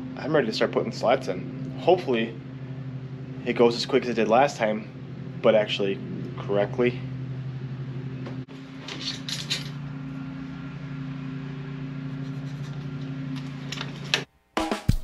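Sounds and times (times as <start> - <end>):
workshop equipment hum: 0.0 - 15.0.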